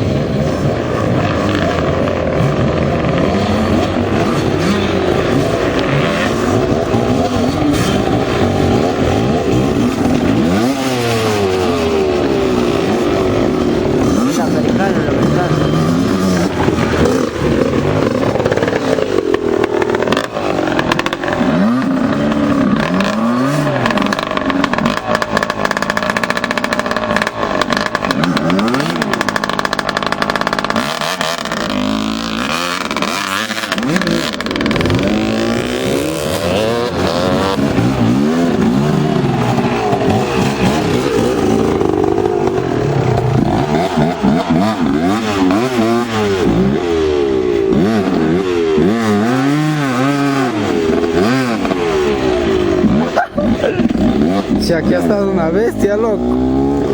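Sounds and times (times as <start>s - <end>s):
racing motorcycles passing: 0.0s - 56.9s.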